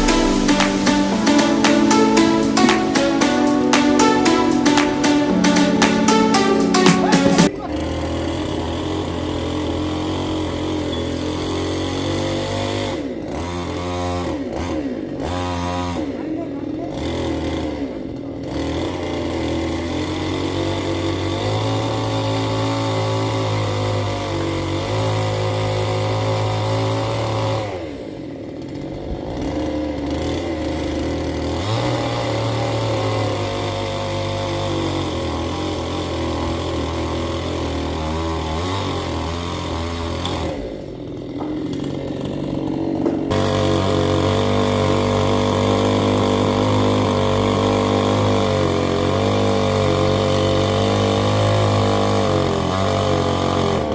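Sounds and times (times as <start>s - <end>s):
chainsaw revving: 7.8s - 16.1s, 16.9s - 53.9s.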